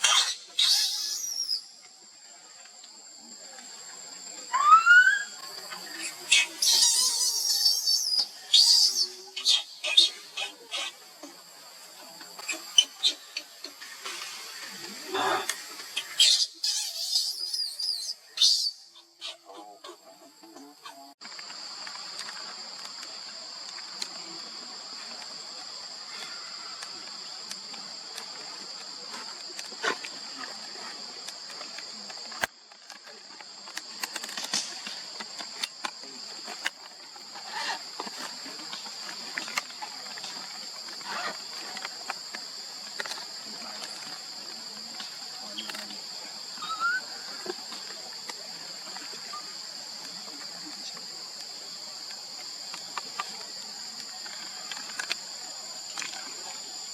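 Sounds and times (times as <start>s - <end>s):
insects buzzing: 0.0s - 56.9s.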